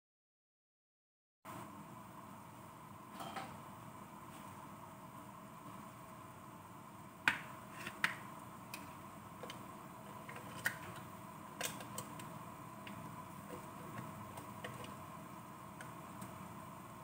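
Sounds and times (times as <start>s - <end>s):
faint hum: 1.5s - 17.0s.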